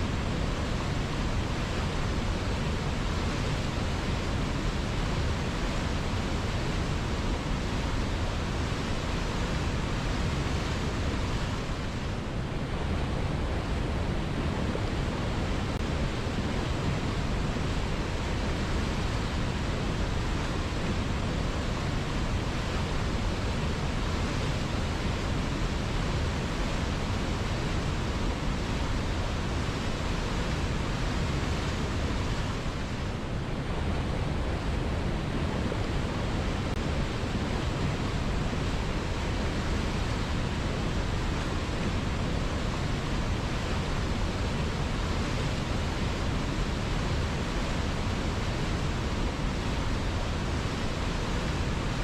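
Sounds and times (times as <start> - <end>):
river water flowing: 0.0 - 52.0.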